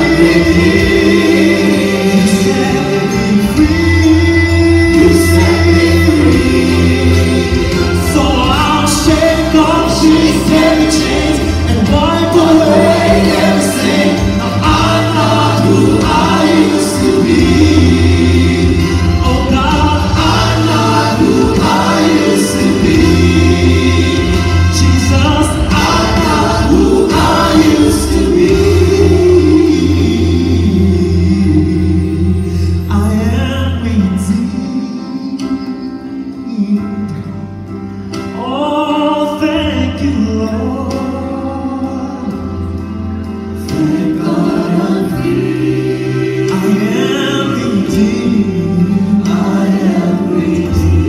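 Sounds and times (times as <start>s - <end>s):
gospel choir singing: 0.0s - 37.2s, 38.2s - 51.0s
man singing lead vocal: 0.0s - 37.6s, 38.2s - 42.8s, 43.6s - 51.0s
instrumental accompaniment: 0.0s - 51.0s.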